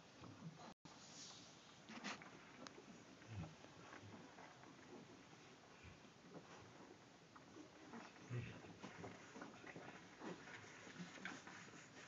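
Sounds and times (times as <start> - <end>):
puppies shuffling: 1.3 - 12.0
puppies making low noises: 1.9 - 12.0.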